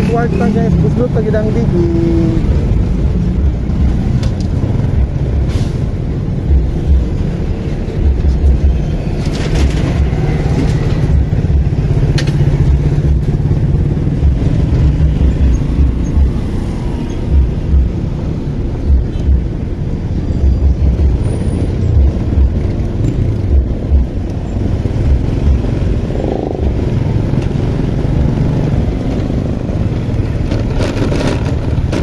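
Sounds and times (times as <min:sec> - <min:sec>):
engine and road rumble: 0:00.0 - 0:32.0
low engine hum: 0:00.0 - 0:32.0
low thumps: 0:02.5 - 0:19.8, 0:21.8 - 0:32.0.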